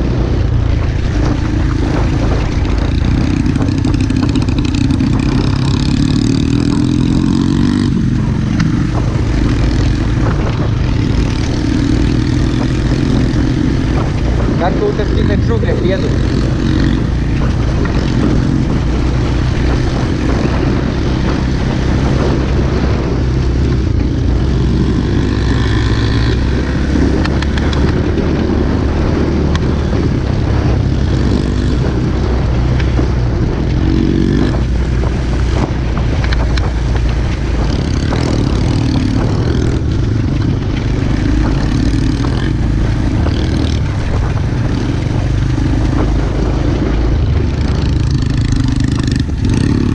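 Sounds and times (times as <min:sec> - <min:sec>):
small motorbike engine running: 0:00.0 - 0:49.9
wind noise: 0:00.0 - 0:49.9.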